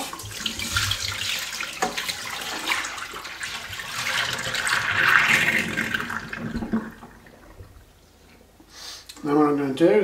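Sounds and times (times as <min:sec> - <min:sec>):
water splashing into steel sink: 0:00.0 - 0:08.0.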